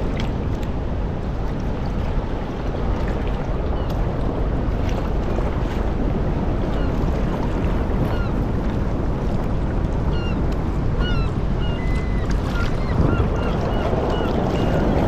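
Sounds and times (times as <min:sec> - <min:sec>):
sea water splashing: 0:00.0 - 0:15.0
wind on microphone: 0:00.0 - 0:15.0.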